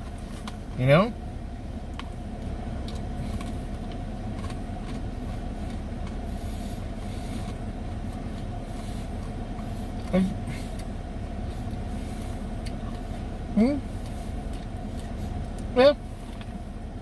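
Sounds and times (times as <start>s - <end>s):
low drone in car cabin: 0.0s - 17.0s
chewing crunchy food: 1.8s - 16.7s.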